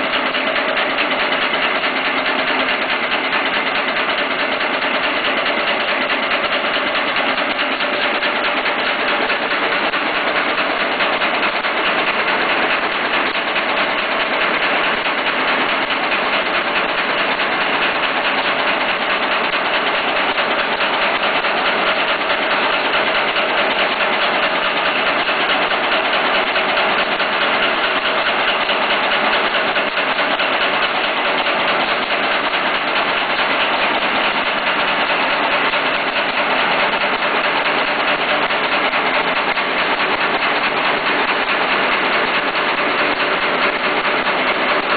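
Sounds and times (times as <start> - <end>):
machine clattering: 0.0 - 44.9.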